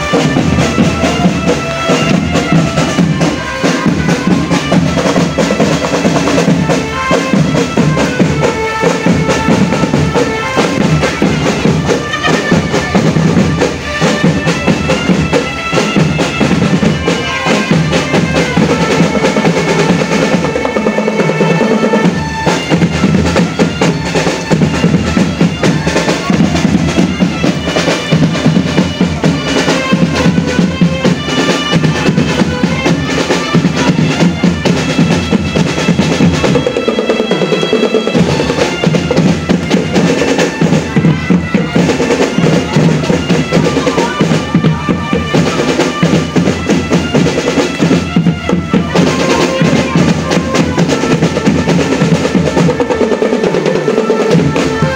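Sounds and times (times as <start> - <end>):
snare and bass drums: 0.0 - 54.9.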